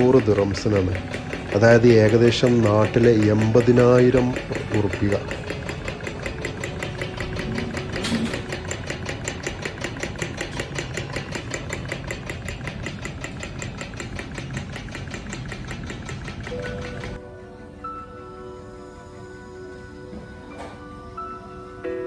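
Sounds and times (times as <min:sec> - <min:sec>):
small engine clattering rhythmically: 0:00.0 - 0:18.7.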